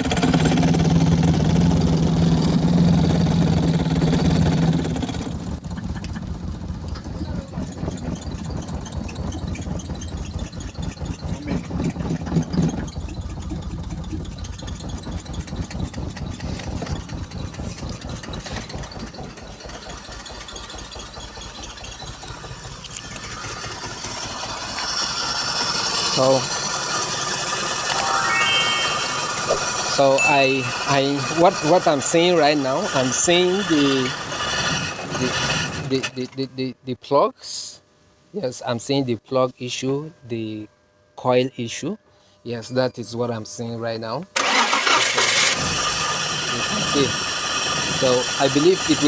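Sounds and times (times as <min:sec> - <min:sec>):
engine misfiring: 0:00.0 - 0:36.3, 0:44.4 - 0:49.0.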